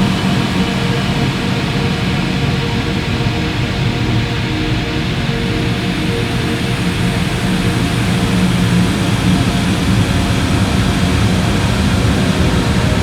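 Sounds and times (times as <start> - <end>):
ambient drone with low held tones: 0.0 - 13.0.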